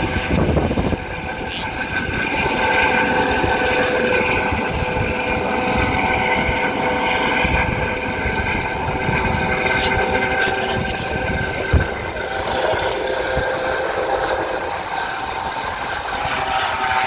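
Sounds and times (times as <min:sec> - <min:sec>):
helicopter rotor noise: 0:00.0 - 0:17.0
helicopter turbine whine: 0:00.0 - 0:17.0.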